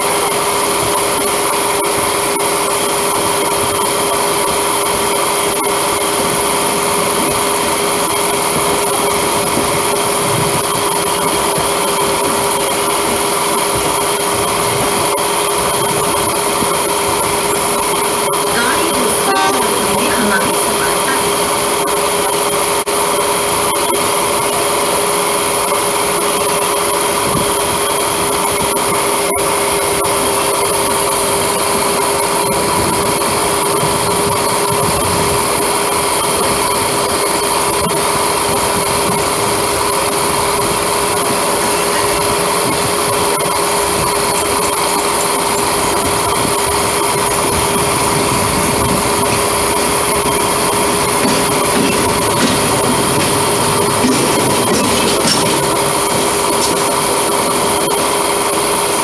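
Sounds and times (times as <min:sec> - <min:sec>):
electric train whine and rumble: 0:00.0 - 0:59.0.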